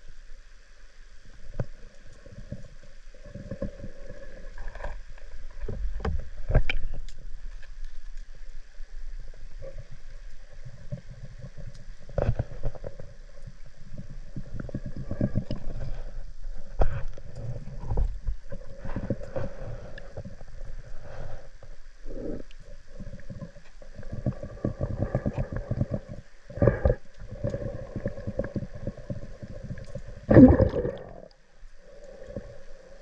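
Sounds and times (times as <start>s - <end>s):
faint steady hum: 0.0s - 33.0s
underwater flowing water gurgling: 0.0s - 33.0s.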